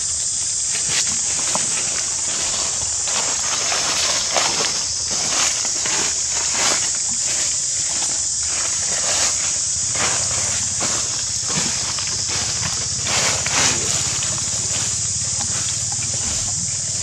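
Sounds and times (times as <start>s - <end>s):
dry leaves rustling: 0.0s - 17.0s
high-pitched insect drone: 0.0s - 17.0s.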